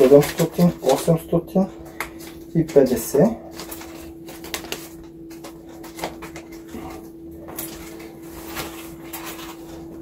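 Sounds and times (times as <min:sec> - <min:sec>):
banknotes rustling and clicking: 0:00.0 - 0:10.0
steady low hum: 0:00.0 - 0:10.0.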